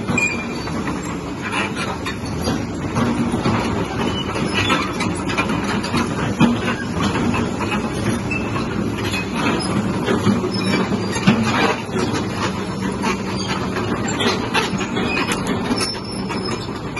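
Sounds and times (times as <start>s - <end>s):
crawler tracks clanking: 0.0s - 16.9s.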